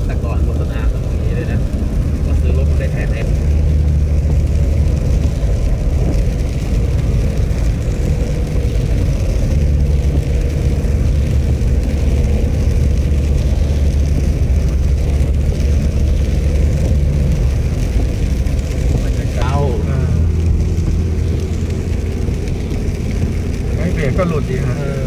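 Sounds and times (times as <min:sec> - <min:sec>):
car engine hum from inside: 0:00.0 - 0:25.0
tyres on wet road: 0:00.0 - 0:25.0.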